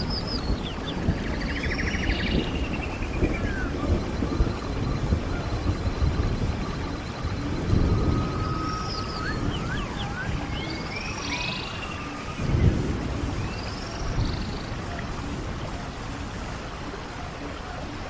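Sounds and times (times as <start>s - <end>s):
birds whistling: 0.0s - 14.7s
frogs croaking: 0.0s - 18.0s
rain hiss: 0.0s - 18.0s.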